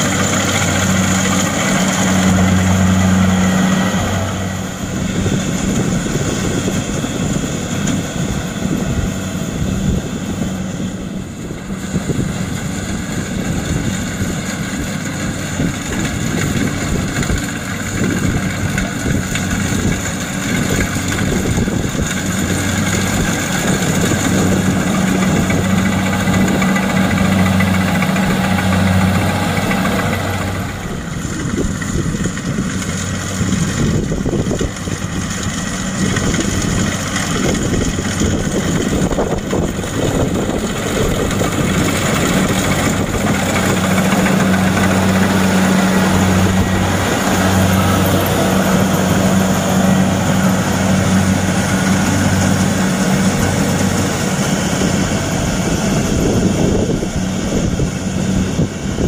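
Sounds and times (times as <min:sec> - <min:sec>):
diesel engine hum: 0:00.0 - 0:59.0
threshing machinery rushing: 0:00.0 - 0:59.0.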